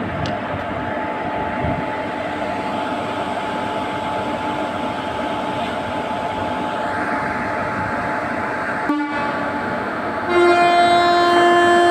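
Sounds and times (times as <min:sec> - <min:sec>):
locomotive engine humming: 0:00.0 - 0:11.9.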